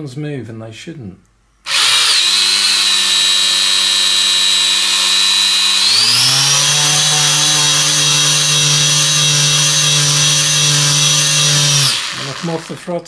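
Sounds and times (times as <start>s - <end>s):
electric motor and propeller whine: 1.7s - 12.8s.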